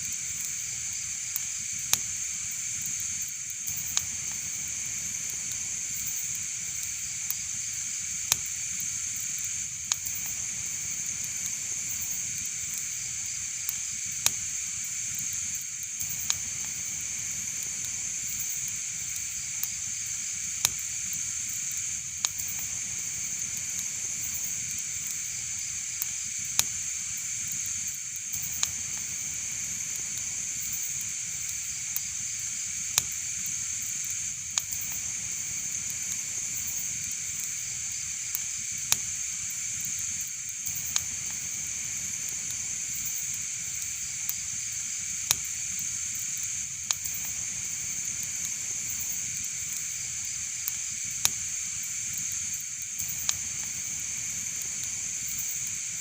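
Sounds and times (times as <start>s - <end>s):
fire crackling pops: 0.0s - 56.0s
fire hissing: 0.0s - 56.0s.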